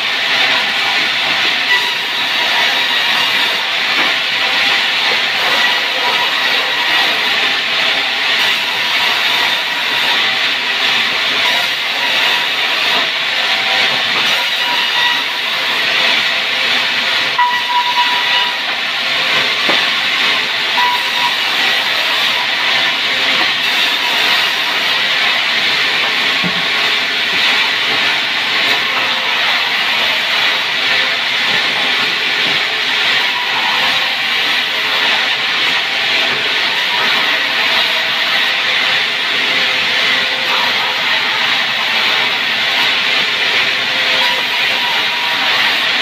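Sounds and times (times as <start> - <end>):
sawmill saw cutting wood: 0.0 - 46.0.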